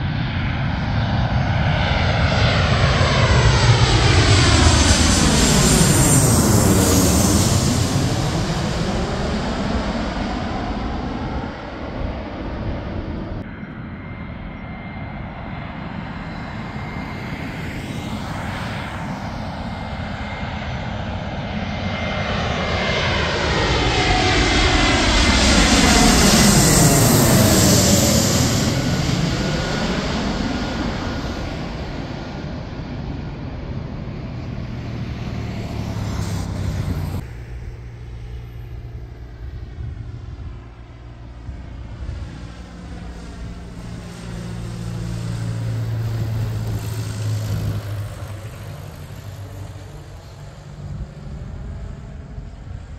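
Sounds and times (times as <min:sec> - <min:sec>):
jet airliner passing overhead: 0:00.0 - 0:52.9
jet engine whine: 0:00.0 - 0:52.9.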